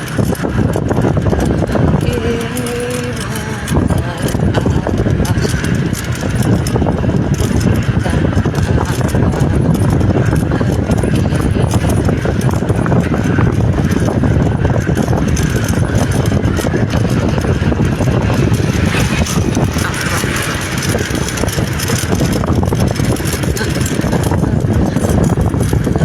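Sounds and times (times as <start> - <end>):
vehicle and road noise: 0.0 - 26.0.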